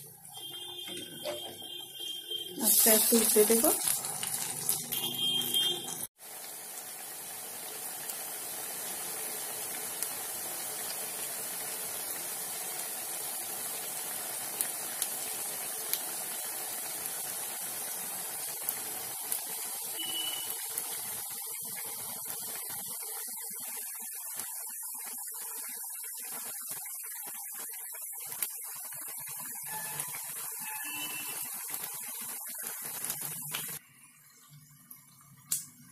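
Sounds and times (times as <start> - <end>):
food deep-frying in oil: 0.0 - 35.9.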